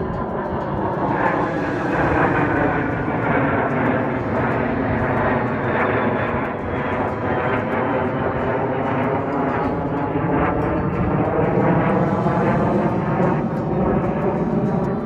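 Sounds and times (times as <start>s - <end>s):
jet aircraft flying over: 0.0s - 15.0s.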